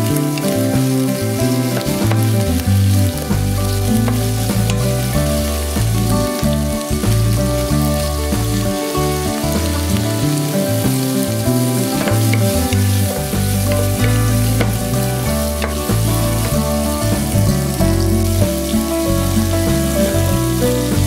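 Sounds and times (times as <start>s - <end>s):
background music: 0.0s - 21.0s
shrimp sizzling in hot oil: 0.0s - 21.0s.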